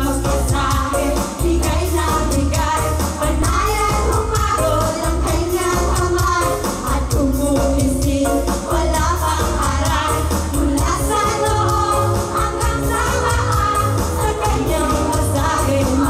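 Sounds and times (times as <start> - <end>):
live pop music through pa: 0.0 - 16.0
women singing into microphones: 0.0 - 16.0.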